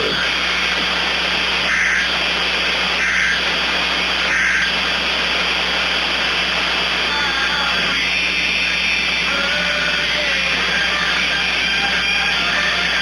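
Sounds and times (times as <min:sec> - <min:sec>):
electronic data bursts: 0:00.0 - 0:04.9, 0:05.8 - 0:13.0
static hiss: 0:00.0 - 0:13.0.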